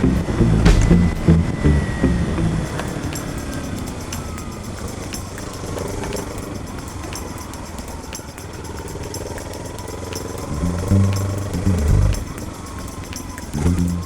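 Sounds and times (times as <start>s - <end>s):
motorcycle engine running: 2.4s - 14.0s.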